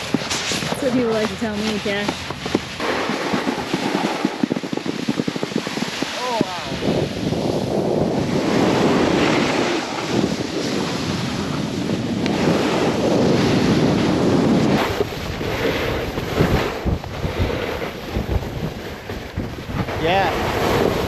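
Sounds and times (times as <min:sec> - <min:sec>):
snowboard scraping through snow: 0:00.0 - 0:21.0
wind buffeting microphone: 0:00.0 - 0:21.0.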